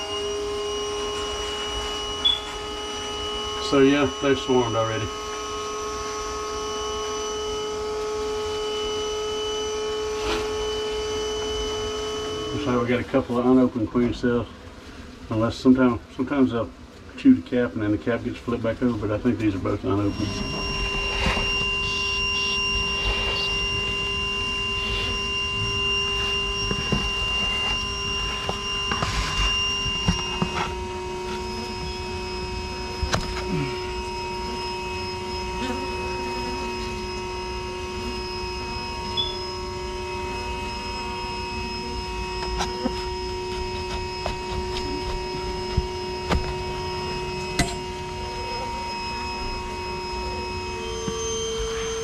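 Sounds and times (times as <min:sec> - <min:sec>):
vacuum motor whining: 0:00.0 - 0:52.0.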